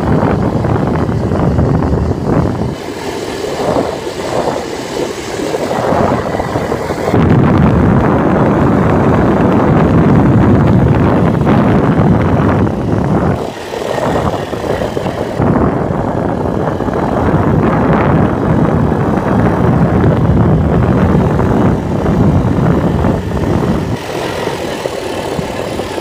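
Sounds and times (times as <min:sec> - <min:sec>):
quad bike engine running: 0:00.0 - 0:26.0
wind noise on microphone: 0:00.0 - 0:26.0.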